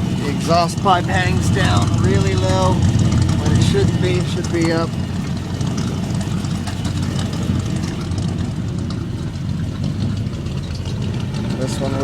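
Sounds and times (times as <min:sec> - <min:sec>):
raw pulsing exhaust: 0:00.0 - 0:12.0
truck engine idling: 0:00.0 - 0:12.0.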